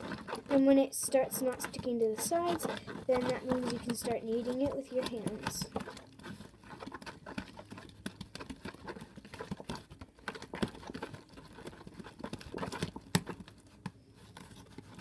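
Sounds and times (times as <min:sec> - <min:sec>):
utensil scraping plastic tub: 0:00.0 - 0:15.0.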